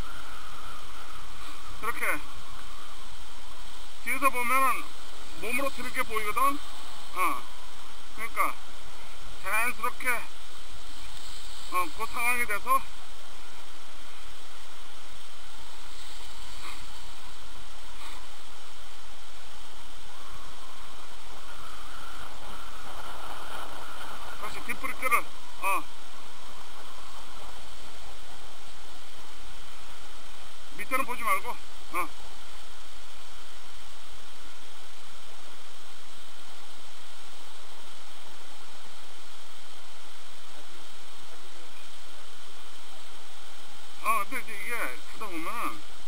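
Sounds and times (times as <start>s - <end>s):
skis sliding over snow: 0.0s - 46.0s.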